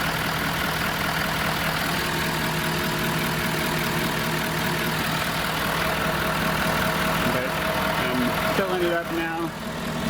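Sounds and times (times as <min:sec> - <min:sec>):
pickup engine idling: 0:00.0 - 0:10.0.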